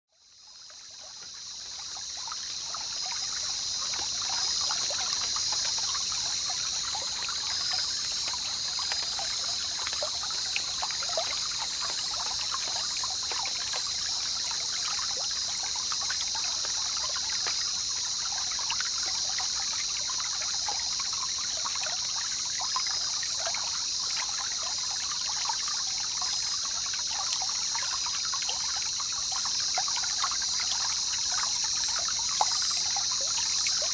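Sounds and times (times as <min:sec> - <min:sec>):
water trickling: 0:00.2 - 0:33.9.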